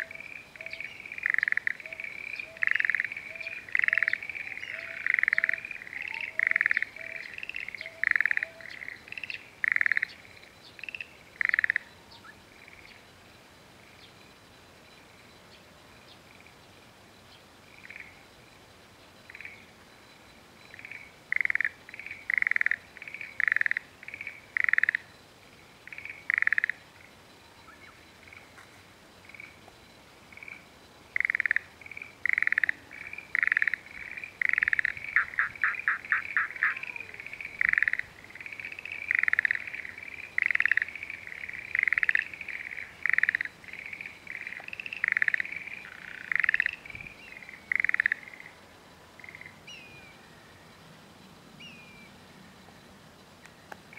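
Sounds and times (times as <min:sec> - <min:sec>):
frogs croaking: 0:00.0 - 0:53.9.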